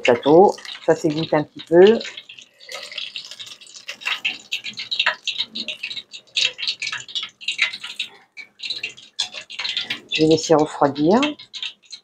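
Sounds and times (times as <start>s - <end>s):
hot oil crackling and spitting: 0.0s - 12.0s.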